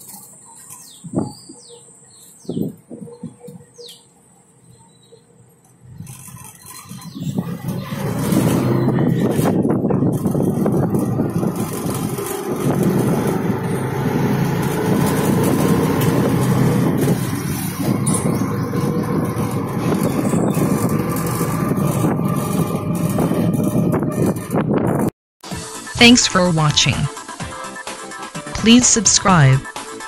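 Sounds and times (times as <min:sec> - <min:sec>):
vehicle engine and road noise: 0:00.0 - 0:25.2.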